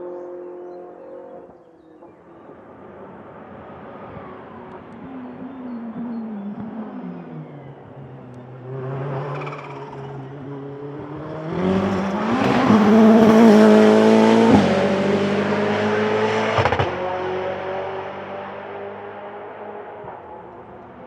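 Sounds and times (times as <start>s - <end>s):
race car engine accelerating past: 3.1s - 21.0s.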